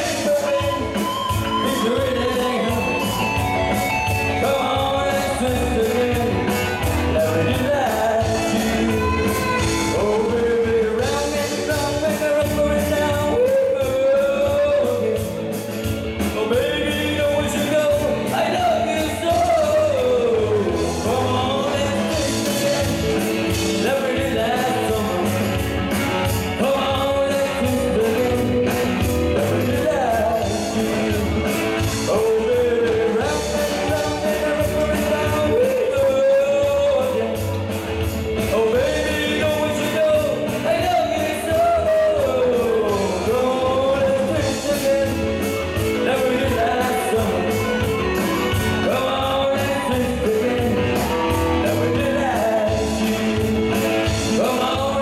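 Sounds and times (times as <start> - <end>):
live band playing pop: 0.0 - 55.0
man singing into microphone: 0.0 - 55.0.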